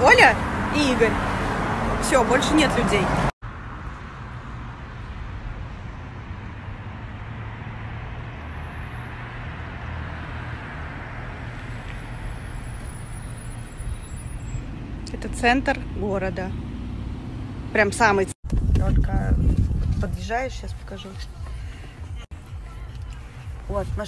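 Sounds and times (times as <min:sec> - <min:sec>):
motor vehicle on road: 0:00.0 - 0:24.0.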